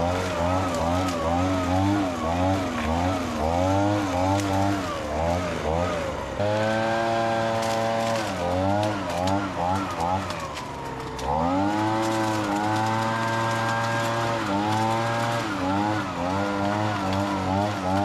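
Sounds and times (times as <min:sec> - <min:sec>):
two-stroke garden tool engine: 0:00.0 - 0:18.0.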